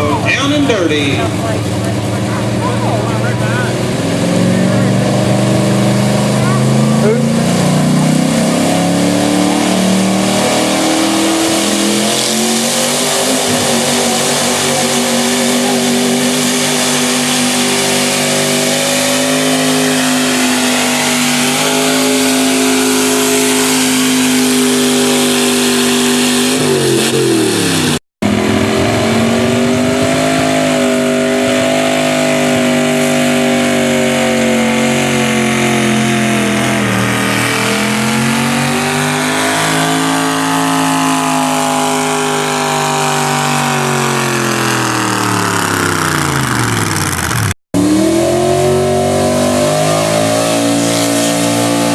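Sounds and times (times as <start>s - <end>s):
truck engine at high revs bogging: 0.0s - 51.9s.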